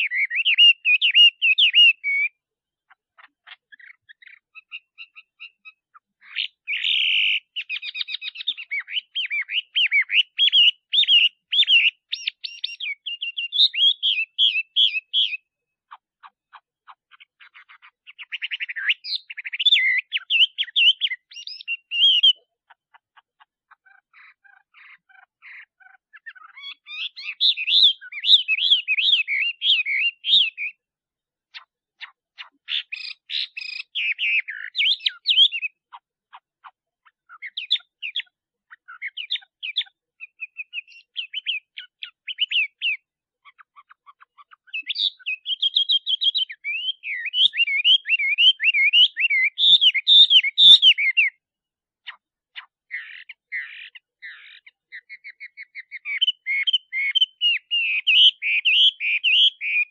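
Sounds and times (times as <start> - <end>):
bird singing whistled notes: 0.0 - 2.4, 3.6 - 15.6, 17.2 - 22.6, 24.2 - 30.9, 32.4 - 35.9, 37.1 - 51.4, 52.9 - 59.9.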